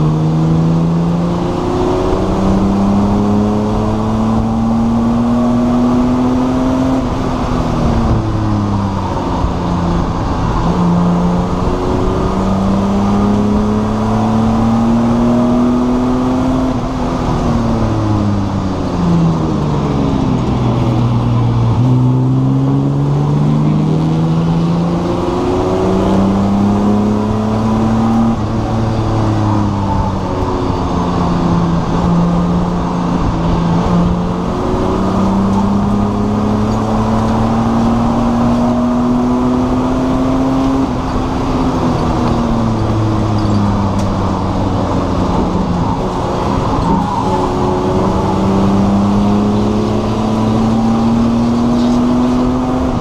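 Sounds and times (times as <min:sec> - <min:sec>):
race car engine: 0:00.0 - 0:53.0.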